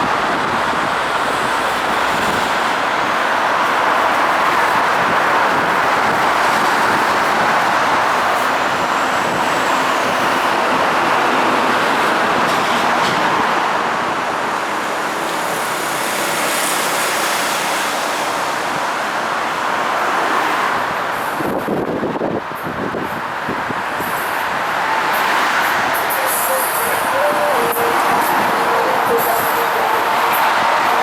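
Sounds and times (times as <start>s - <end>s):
subway train wheels rumbling on rail: 0.0s - 31.0s.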